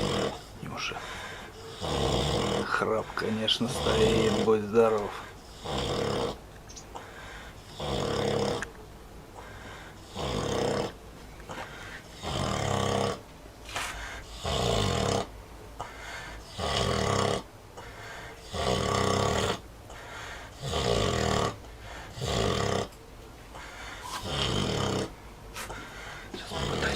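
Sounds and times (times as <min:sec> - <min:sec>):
pig snoring: 0:00.0 - 0:08.7, 0:09.4 - 0:26.9
quiet pig breaths: 0:00.0 - 0:26.9.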